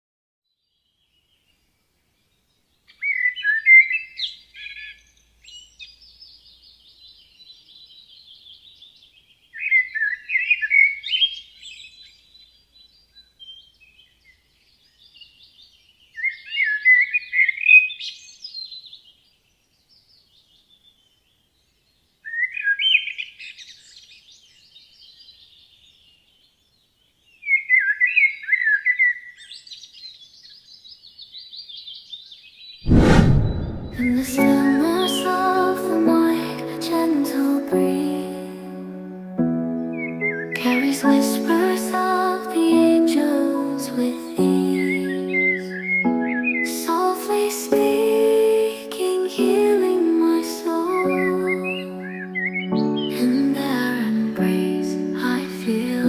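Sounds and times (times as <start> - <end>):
songbird singing: 0.5 - 32.8, 33.5 - 56.0.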